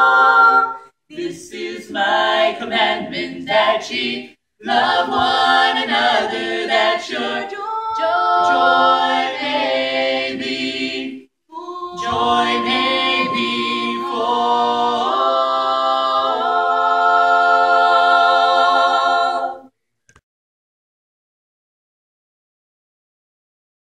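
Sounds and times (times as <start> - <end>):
vocal quartet singing in harmony: 0.0 - 19.7.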